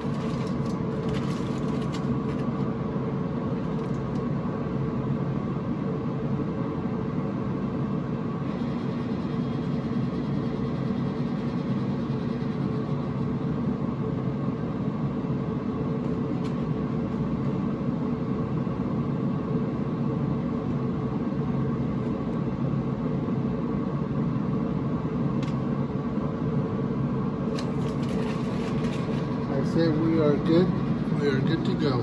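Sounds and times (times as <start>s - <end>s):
grill fan humming: 0.0s - 32.0s.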